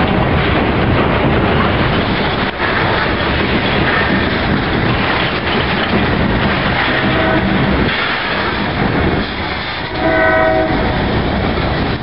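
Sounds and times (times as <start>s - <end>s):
steel train wheels on rails: 0.0s - 12.0s.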